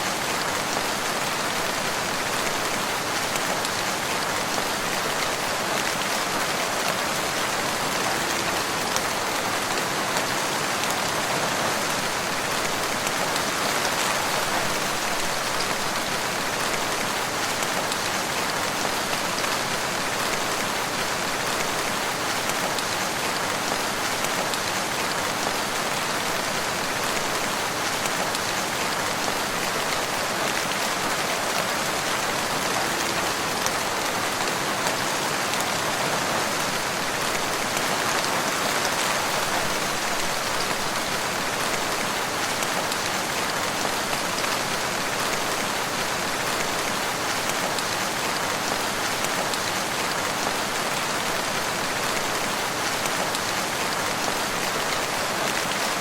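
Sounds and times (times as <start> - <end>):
steady rain in a forest: 0.0 - 56.0.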